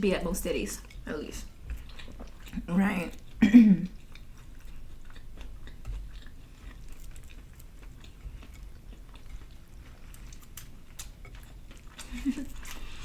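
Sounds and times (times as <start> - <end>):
chewing mouth clicks and smacks: 0.8 - 13.0.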